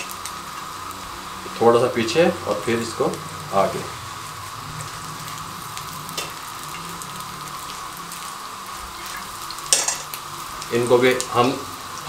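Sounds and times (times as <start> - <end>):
kebabs sizzling in oil: 0.0 - 12.0.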